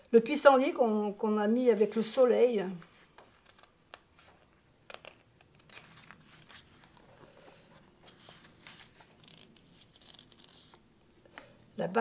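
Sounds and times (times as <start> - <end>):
book pages being turned: 1.7 - 11.5.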